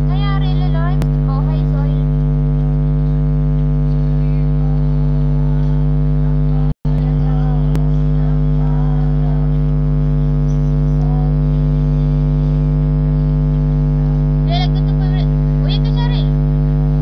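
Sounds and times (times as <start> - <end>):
faint voice: 0.0 - 12.2, 14.0 - 17.0
loud buzzy electrical hum: 0.0 - 17.0.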